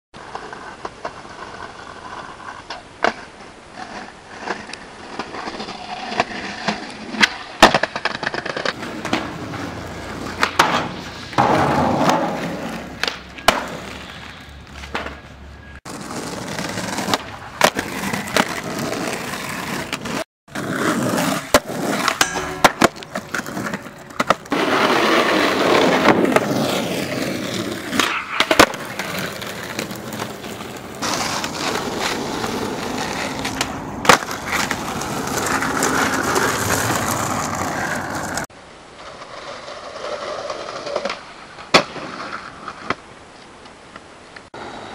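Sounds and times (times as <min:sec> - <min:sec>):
skateboard clacking on ground: 0:00.2 - 0:43.0
skateboard wheels rolling on concrete: 0:00.2 - 0:44.9.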